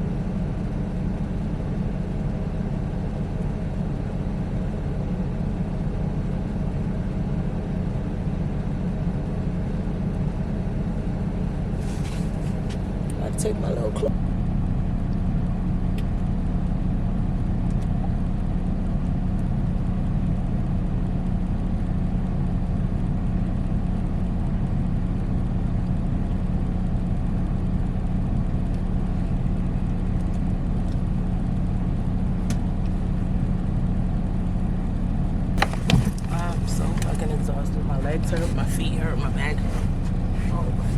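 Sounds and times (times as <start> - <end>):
diesel truck engine drone: 0.0 - 40.9.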